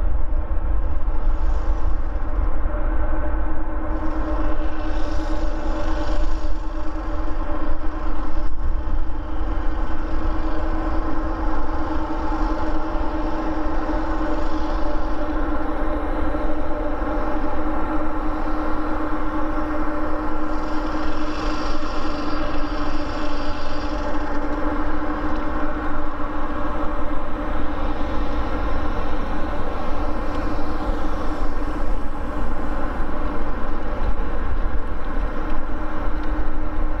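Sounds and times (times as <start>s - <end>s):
jet engines at takeoff power: 0.0s - 37.0s.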